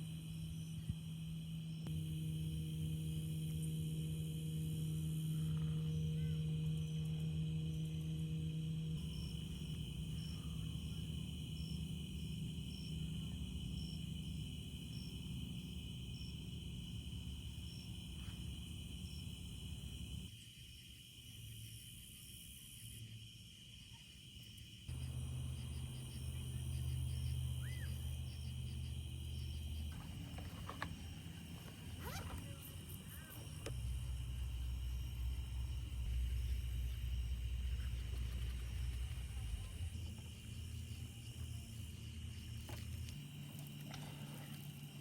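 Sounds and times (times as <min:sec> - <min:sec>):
insects chirping: 0:00.0 - 0:45.0.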